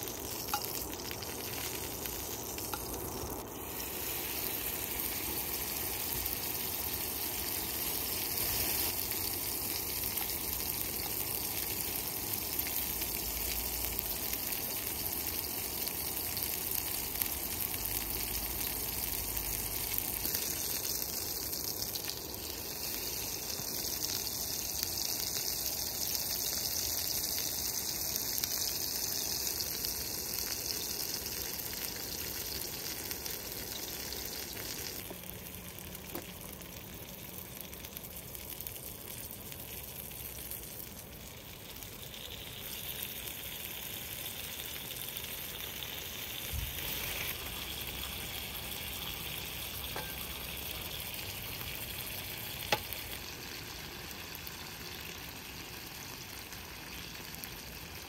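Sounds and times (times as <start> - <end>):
food frying: 0.0 - 58.0.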